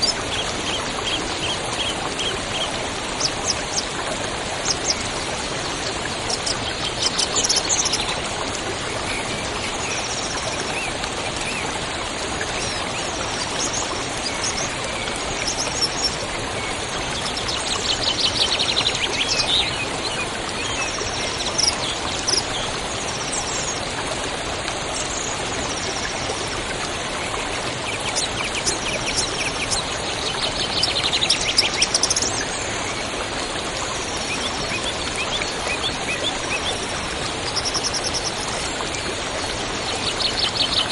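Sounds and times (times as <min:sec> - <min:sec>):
flowing stream water: 0:00.0 - 0:40.9.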